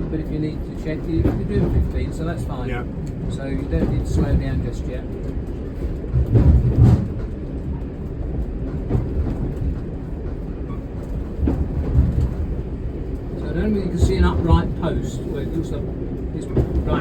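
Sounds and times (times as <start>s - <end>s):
railcar bumps: 0.0s - 17.0s
railcar rumbling: 0.0s - 17.0s.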